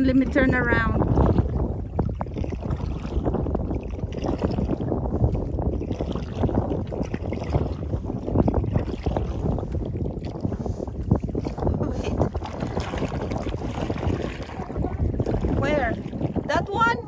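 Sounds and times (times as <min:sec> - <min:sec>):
paddle strokes in water: 0:00.0 - 0:17.0
water slapping against kayak hull: 0:00.0 - 0:17.0
wind rumbling on microphone: 0:00.0 - 0:17.0.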